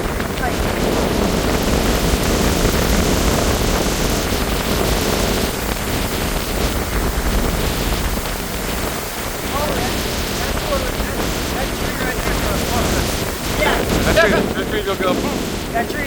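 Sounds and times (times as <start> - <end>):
wind blowing against microphone: 0.0 - 16.0.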